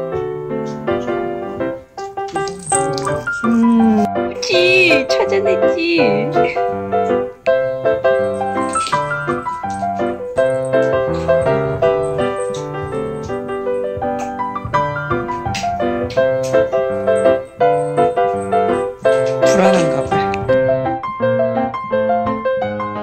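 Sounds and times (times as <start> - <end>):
light piano melody: 0.0 - 23.0.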